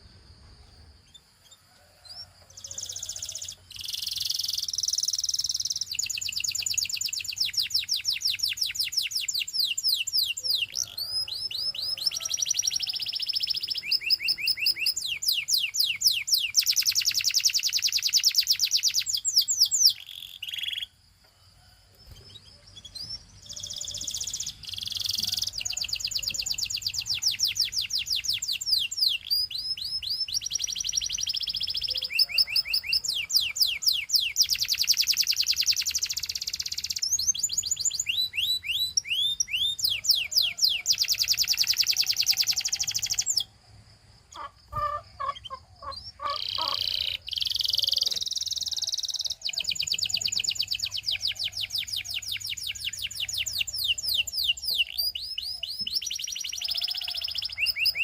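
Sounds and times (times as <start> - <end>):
canary singing fast trills: 0.0 - 21.2, 21.9 - 58.0.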